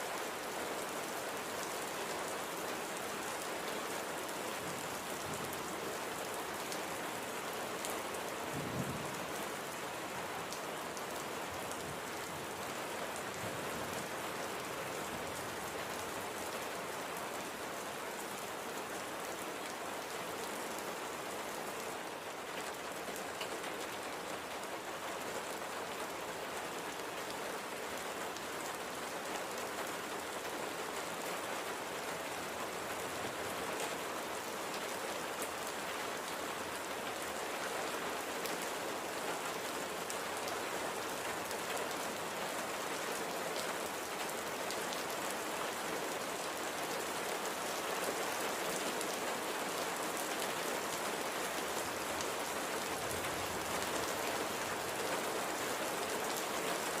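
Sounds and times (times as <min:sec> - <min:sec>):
light gentle rain: 0:00.0 - 0:57.0.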